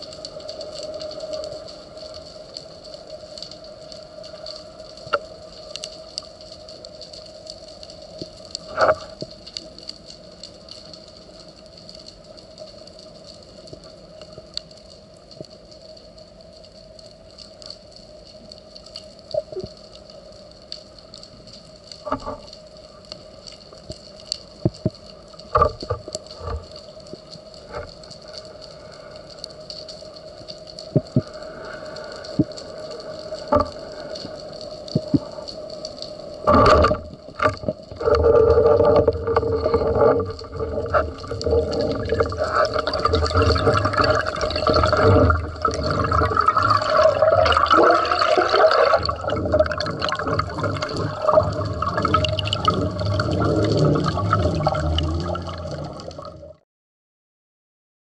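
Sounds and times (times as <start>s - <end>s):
underwater hum: 0.0s - 56.6s
underwater clicks: 0.1s - 15.9s, 20.7s - 56.5s.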